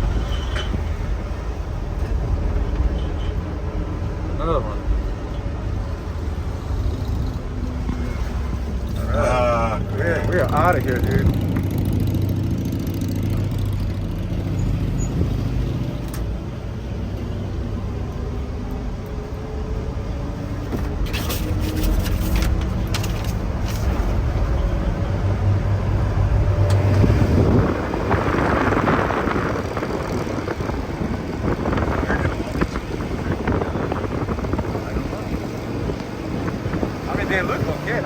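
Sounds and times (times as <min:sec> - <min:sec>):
road noise: 0:00.0 - 0:38.0
truck engine driving: 0:00.0 - 0:38.0.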